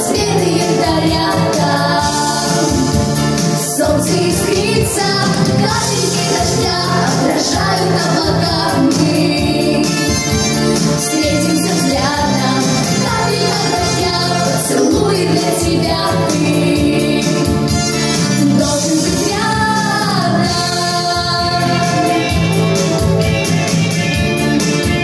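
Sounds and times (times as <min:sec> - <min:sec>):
backing music with steady beat: 0:00.0 - 0:25.0.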